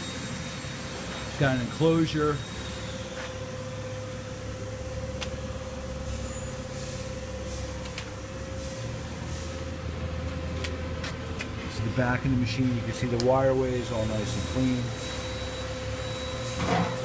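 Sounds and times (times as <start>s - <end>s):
mid-pitched machine whine: 0.0s - 17.0s
low machinery rumble: 0.8s - 17.0s.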